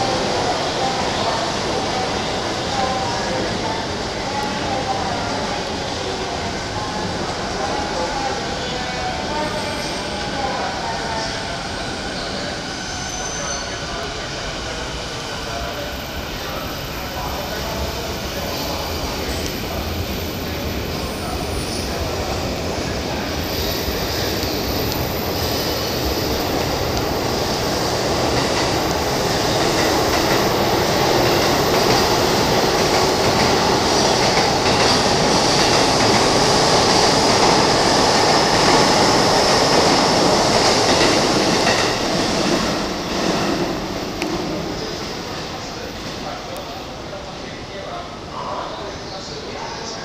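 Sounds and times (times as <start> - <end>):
trains rumbling past: 0.0 - 50.0.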